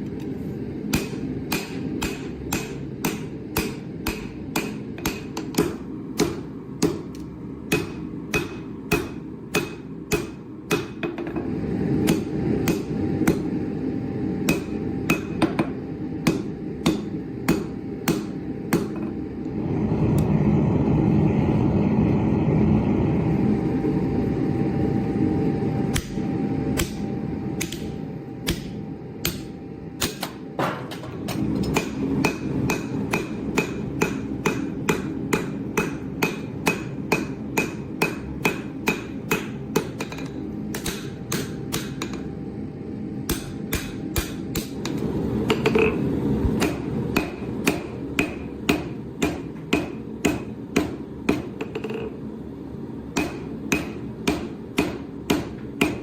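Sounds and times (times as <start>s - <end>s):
constant low rumble: 0.0s - 56.0s.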